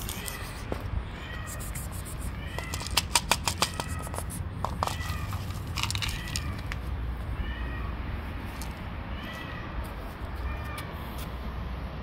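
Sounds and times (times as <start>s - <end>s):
cats meowing: 0.0s - 8.1s, 9.0s - 11.0s.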